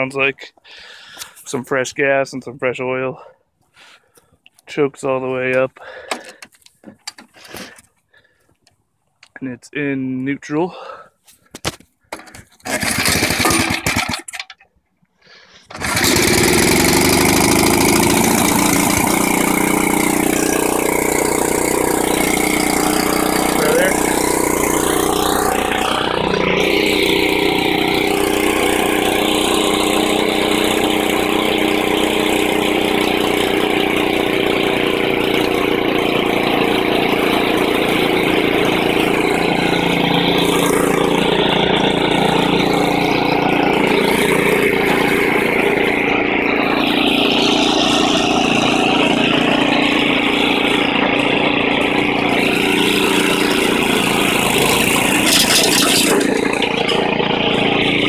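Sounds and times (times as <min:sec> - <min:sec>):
snowblower engine running: 0:05.8 - 0:08.4, 0:12.1 - 0:14.7, 0:15.3 - 0:58.0.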